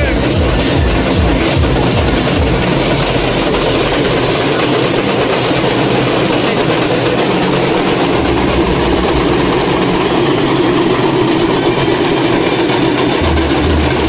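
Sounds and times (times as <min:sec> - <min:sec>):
drums beating: 0:00.0 - 0:14.0
street crowd din: 0:00.0 - 0:14.0.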